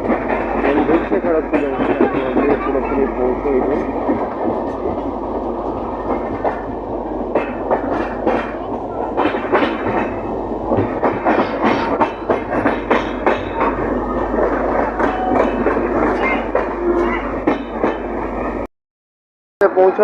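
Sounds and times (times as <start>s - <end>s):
train rumble: 0.0s - 18.7s
train wheels clacking over rail joints: 0.0s - 18.7s.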